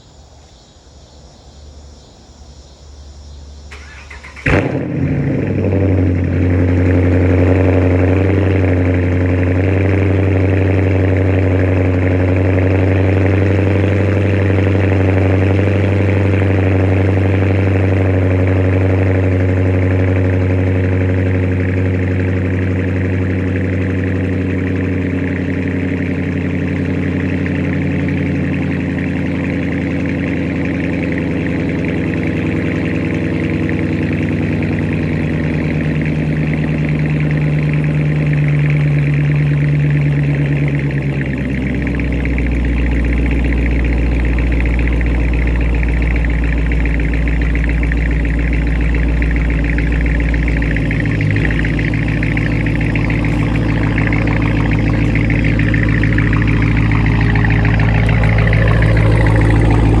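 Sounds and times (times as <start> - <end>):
loud engine exhaust idling: 3.3 - 60.0.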